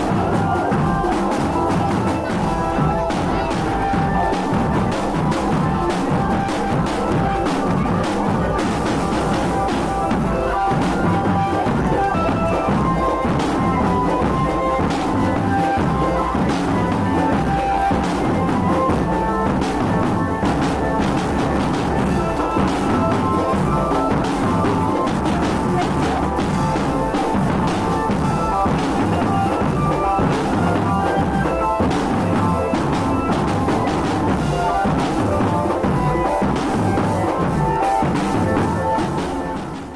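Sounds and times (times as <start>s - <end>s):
melody of held notes: 0.0s - 39.8s
bass drums beating: 0.0s - 39.9s
marching drum band: 0.0s - 39.9s.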